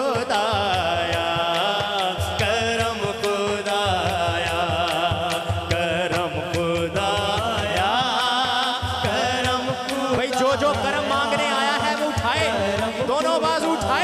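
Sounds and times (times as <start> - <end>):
man singing devotional song: 0.0 - 14.0.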